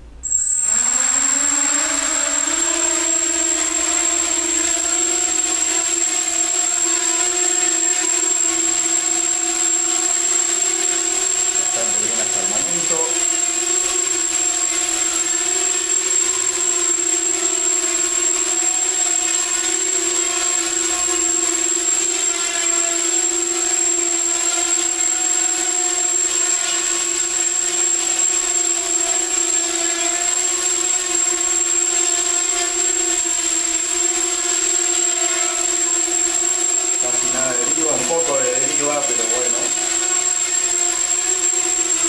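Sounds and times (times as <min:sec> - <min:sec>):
quadcopter drone buzzing: 0:00.2 - 0:42.0.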